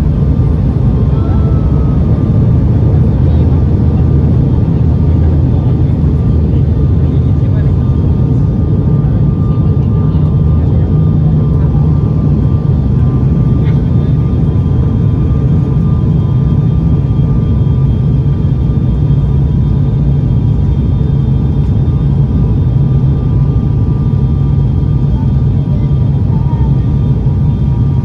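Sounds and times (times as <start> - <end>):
turboprop engine drone: 0.0 - 28.0.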